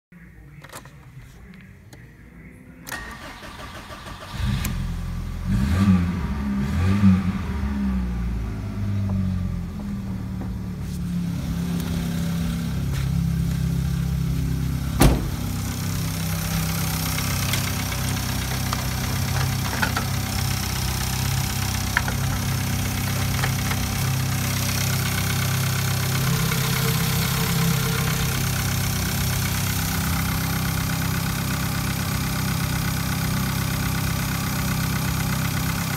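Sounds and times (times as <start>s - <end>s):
car engine starting and idling: 2.4s - 35.9s.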